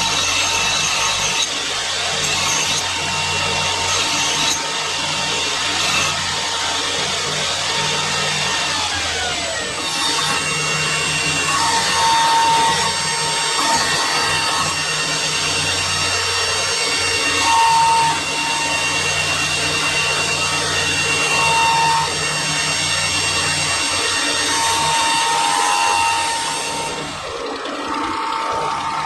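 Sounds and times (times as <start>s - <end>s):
electric grinder grinding steel: 0.0s - 29.0s.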